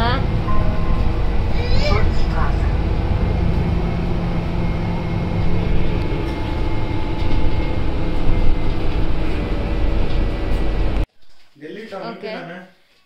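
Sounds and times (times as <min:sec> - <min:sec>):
bus engine and road rumble: 0:00.0 - 0:11.1
thin steady whine: 0:00.0 - 0:11.1.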